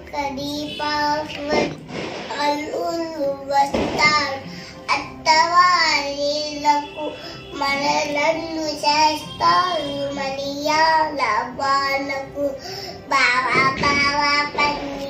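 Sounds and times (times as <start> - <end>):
girl singing: 0.0 - 15.0.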